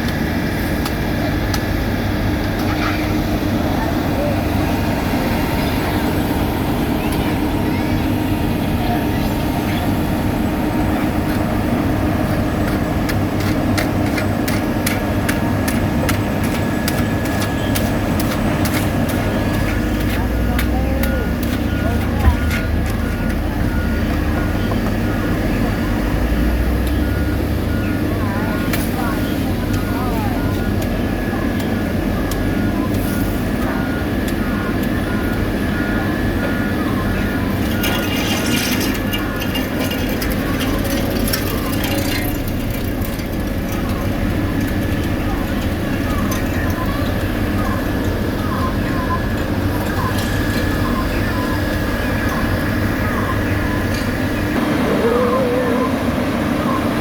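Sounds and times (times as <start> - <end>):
heavy machinery engine drone: 0.0 - 57.0.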